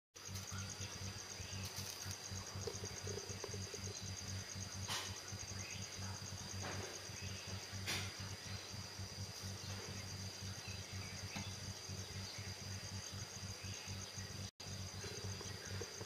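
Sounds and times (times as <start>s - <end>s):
insects chirring: 0.2s - 16.0s.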